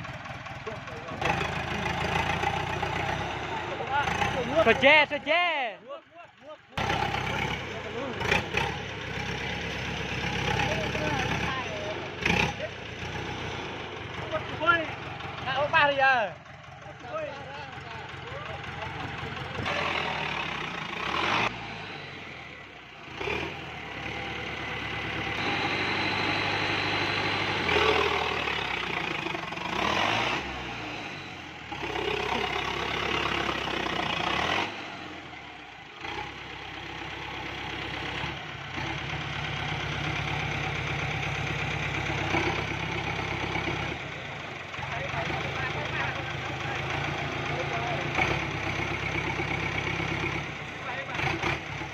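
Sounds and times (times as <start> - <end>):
diesel truck engine revving: 0.0 - 51.9.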